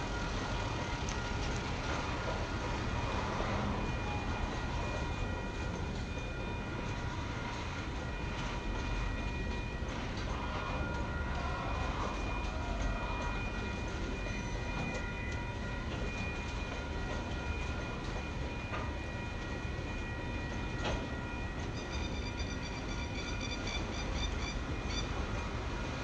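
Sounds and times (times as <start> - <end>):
freight train wagons rumbling: 0.0 - 26.0.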